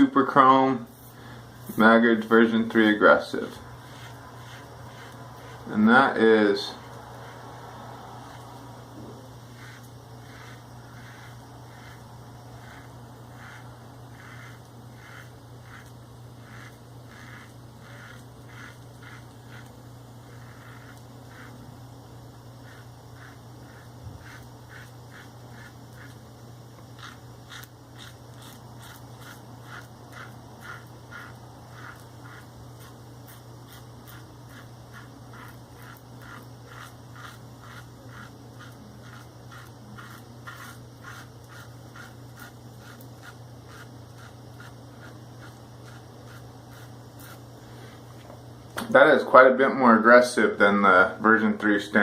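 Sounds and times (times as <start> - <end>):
steady low hum: 0.0 - 52.0
razor scraping stubble: 1.6 - 21.8, 22.4 - 26.2, 26.8 - 48.3.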